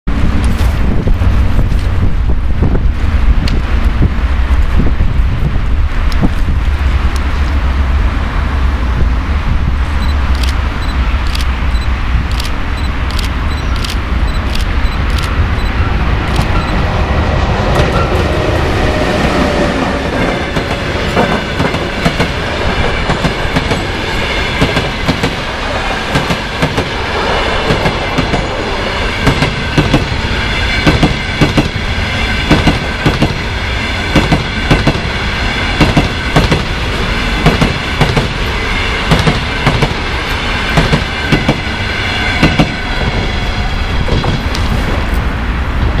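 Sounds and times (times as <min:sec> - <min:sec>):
train rumble: 0:00.0 - 0:46.0.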